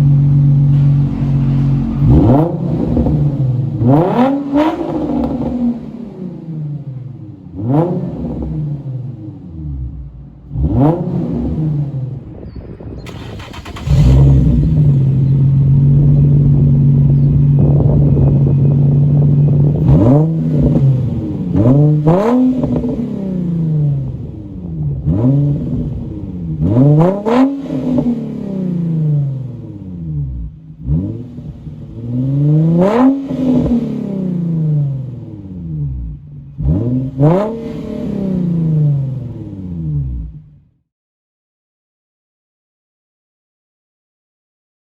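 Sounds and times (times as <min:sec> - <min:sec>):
car engine revving: 0:00.0 - 0:40.7.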